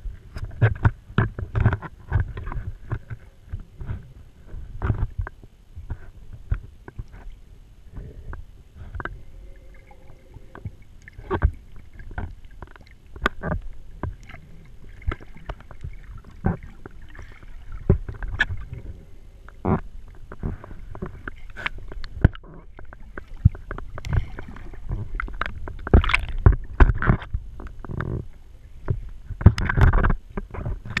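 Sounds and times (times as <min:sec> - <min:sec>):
muffled underwater water rumble: 0:00.0 - 0:31.0.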